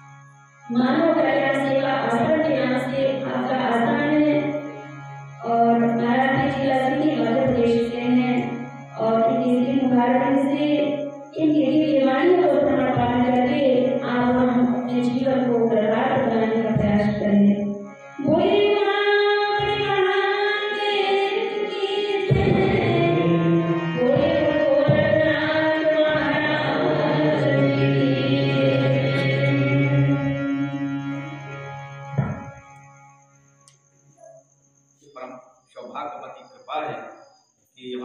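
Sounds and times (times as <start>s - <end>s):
harmonium chords: 0.0s - 34.0s
woman singing devotional melody: 0.7s - 32.5s.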